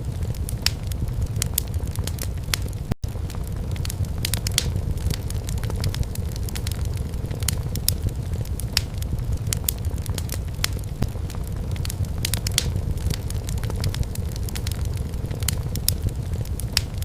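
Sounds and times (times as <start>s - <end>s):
firewood crackling and popping: 0.0s - 17.0s
low fire rumble: 0.0s - 17.0s.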